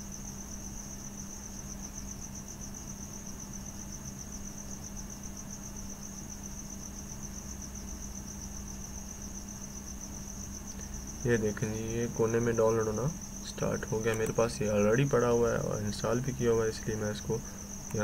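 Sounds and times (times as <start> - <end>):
cricket trilling: 0.0 - 18.0
faint recording hiss: 0.0 - 18.0
low steady hum: 0.0 - 18.0.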